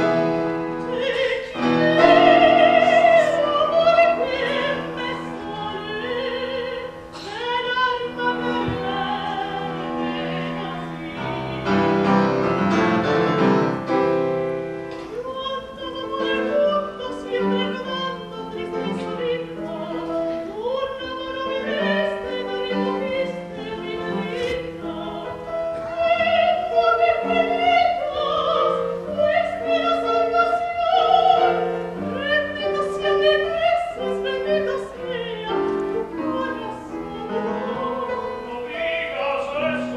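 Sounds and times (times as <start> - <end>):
operatic singing: 0.0 - 14.0, 15.0 - 39.9
piano accompaniment: 0.0 - 39.9.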